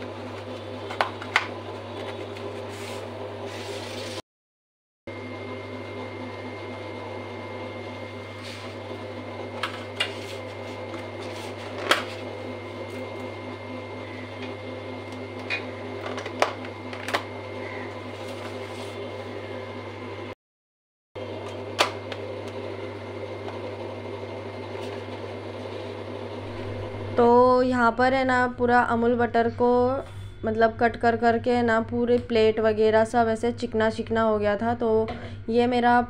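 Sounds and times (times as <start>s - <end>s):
appliance hum: 0.0s - 4.2s, 5.1s - 20.4s, 21.2s - 36.0s.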